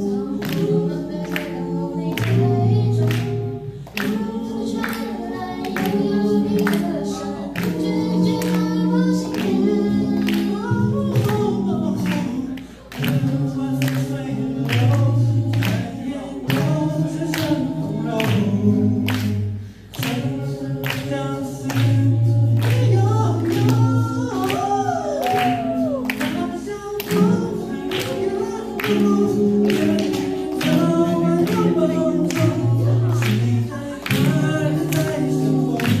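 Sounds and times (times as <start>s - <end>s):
steady percussive beat: 0.0s - 36.0s
vocal group singing in harmony: 0.0s - 36.0s.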